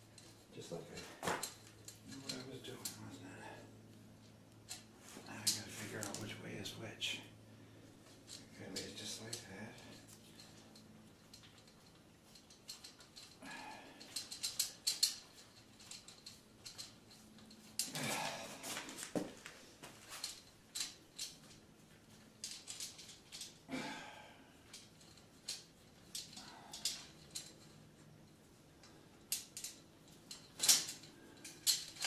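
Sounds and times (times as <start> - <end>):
metal chain clicking and rattling: 0.0 - 3.6, 8.0 - 32.0
chain clinking and scraping: 0.0 - 32.0.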